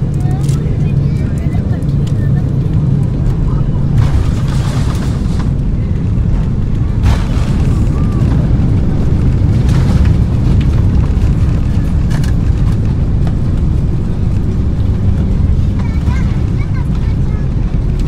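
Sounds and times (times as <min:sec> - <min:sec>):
aircraft cabin engine rumble: 0:00.0 - 0:18.0.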